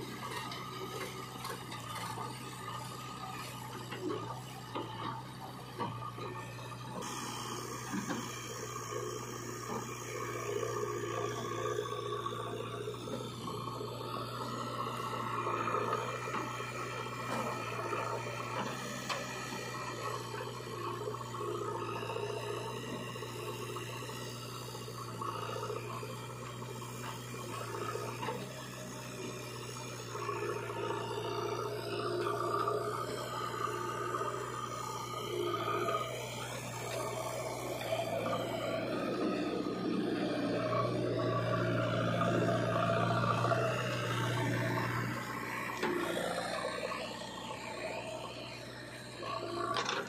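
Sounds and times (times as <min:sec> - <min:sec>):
diesel engines running: 0:00.0 - 0:50.0.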